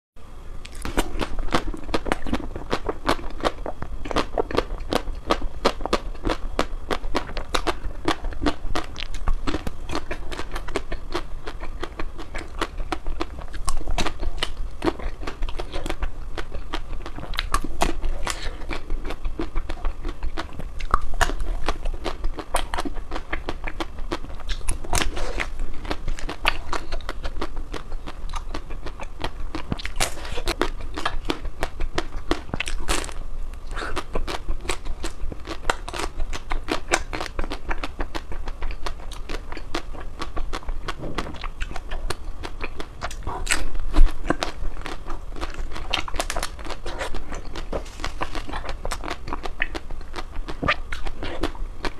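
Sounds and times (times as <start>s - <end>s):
steady low hum: 0.2s - 51.9s
ice cream crunching while chewed: 0.6s - 51.9s.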